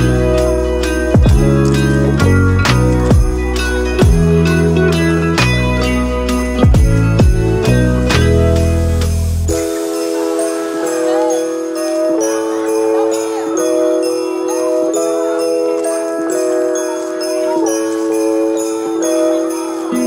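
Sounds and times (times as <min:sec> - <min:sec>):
jingle bells shaking: 0:00.0 - 0:20.0.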